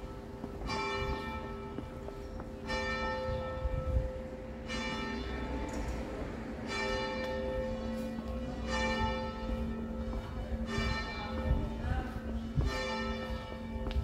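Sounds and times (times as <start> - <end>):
church bell tolling: 0.0 - 14.0.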